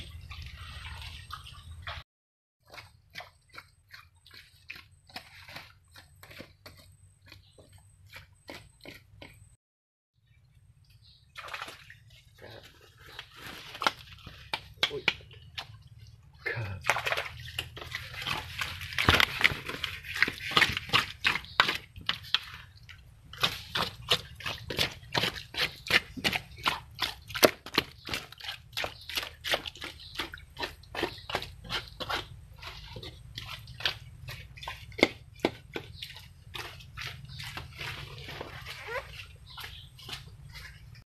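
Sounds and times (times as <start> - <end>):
wet mud squelching: 0.0 - 2.0, 2.6 - 9.6, 11.0 - 41.0.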